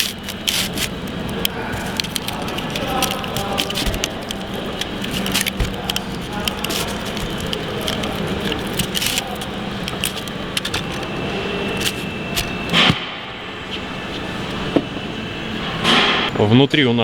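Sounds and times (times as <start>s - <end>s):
steady workshop hum: 0.0s - 17.0s.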